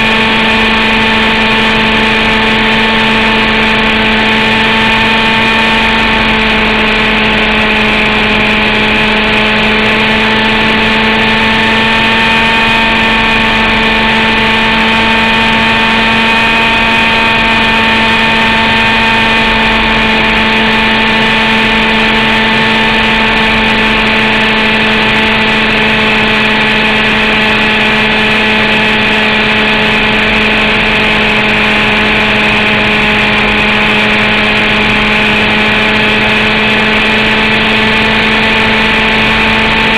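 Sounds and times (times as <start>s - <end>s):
model helicopter engine droning: 0.0s - 39.9s.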